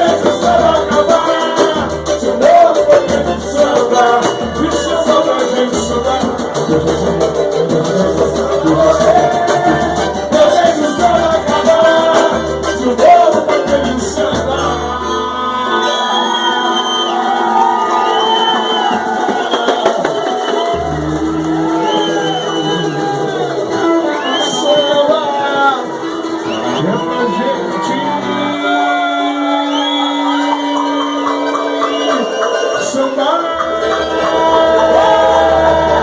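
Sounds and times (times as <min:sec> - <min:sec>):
rattling percussion: 0:00.0 - 0:15.0, 0:16.6 - 0:28.9, 0:29.7 - 0:36.0
samba band playing: 0:00.0 - 0:36.0
voices singing along: 0:00.0 - 0:36.0.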